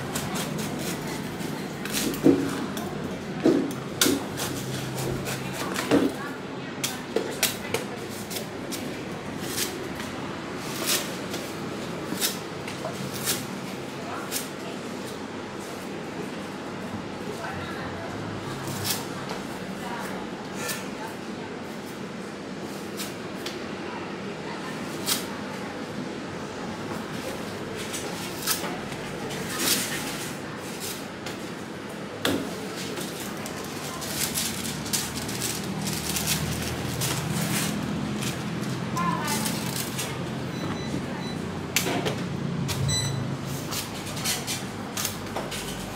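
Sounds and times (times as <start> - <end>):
steady background noise: 0.0 - 45.9.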